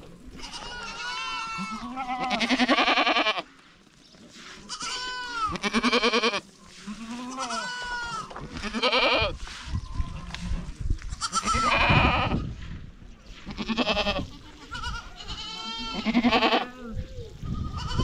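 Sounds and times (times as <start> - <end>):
goats bleating: 0.3 - 3.5, 4.7 - 9.4, 10.1 - 12.4, 13.5 - 18.0.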